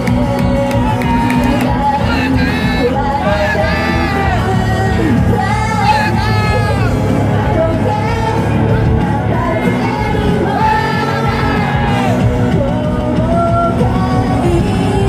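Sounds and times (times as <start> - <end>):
girls singing in unison: 0.0 - 15.0
pop-rock backing track: 0.0 - 15.0.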